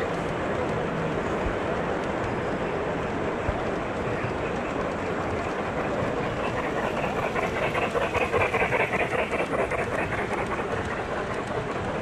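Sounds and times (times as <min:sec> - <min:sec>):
model train wheels clattering on rails: 0:00.0 - 0:12.0.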